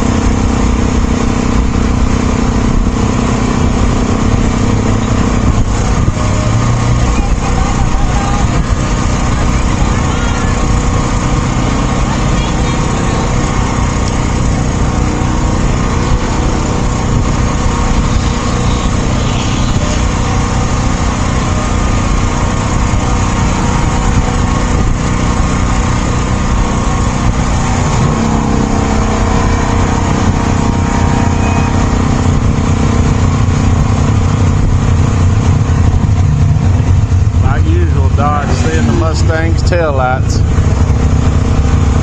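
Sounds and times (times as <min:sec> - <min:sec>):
road noise: 0:00.0 - 0:42.0
vehicle engine running: 0:00.0 - 0:42.0.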